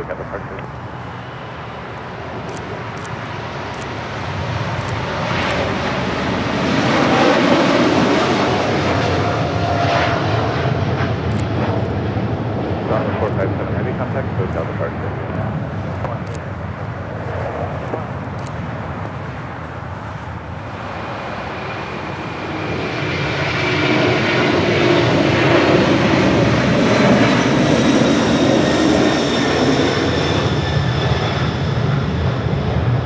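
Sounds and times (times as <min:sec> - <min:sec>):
high engine whine: 0:00.0 - 0:33.0
jet engines roaring: 0:00.0 - 0:33.0.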